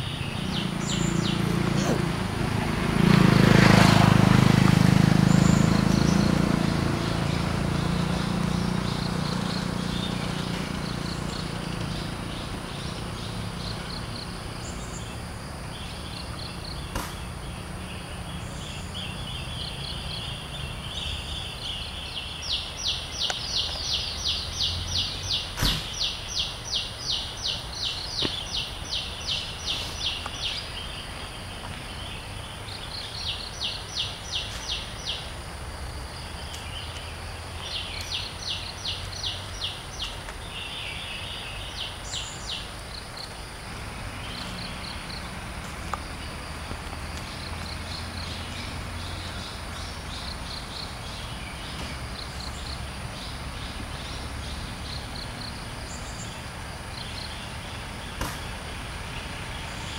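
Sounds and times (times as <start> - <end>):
insects trilling: 5.2 - 59.9.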